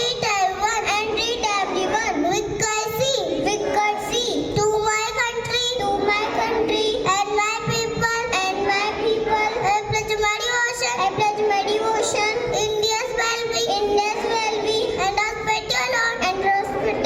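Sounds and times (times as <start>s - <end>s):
children singing: 0.0s - 17.0s.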